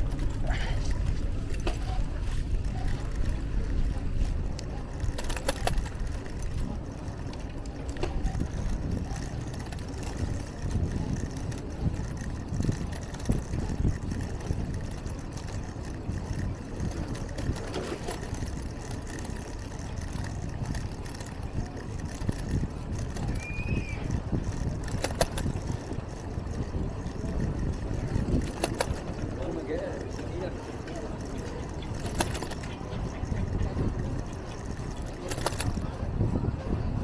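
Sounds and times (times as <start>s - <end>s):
traffic: 0.0s - 37.0s
wind and road rumble: 0.0s - 37.0s.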